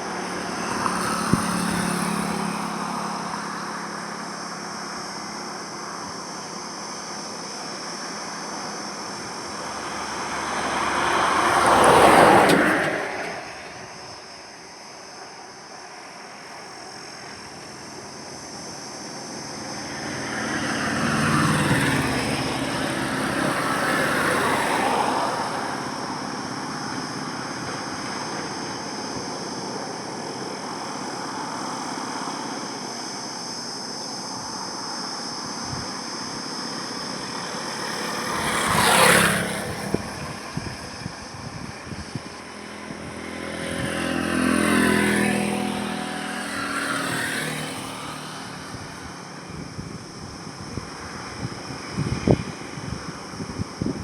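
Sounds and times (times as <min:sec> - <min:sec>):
vehicle passing close and fast: 0:00.0 - 0:32.9, 0:34.3 - 0:54.0
highway traffic hum: 0:00.0 - 0:54.0.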